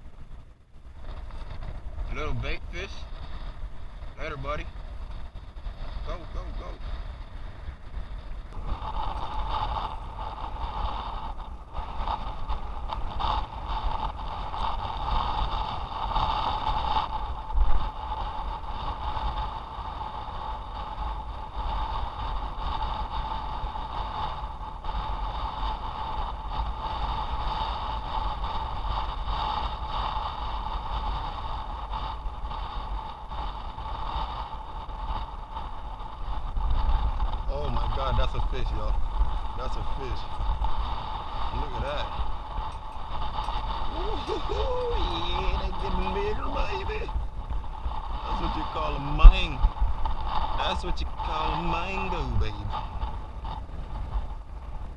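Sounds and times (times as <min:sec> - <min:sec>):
traffic drone on bridge: 0:00.0 - 0:54.9
wind rumbling on microphone: 0:00.0 - 0:54.9.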